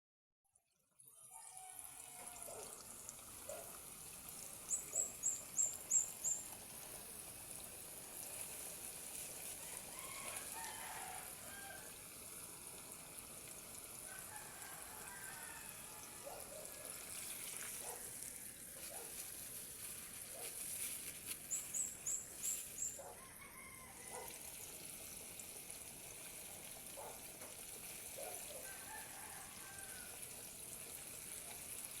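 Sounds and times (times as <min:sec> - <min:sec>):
chicken frying in oil: 0:00.5 - 0:32.0.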